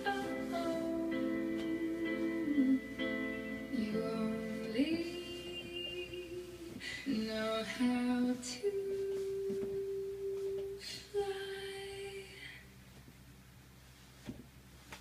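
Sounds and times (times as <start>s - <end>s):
woman singing recorded song: 0.0s - 12.7s.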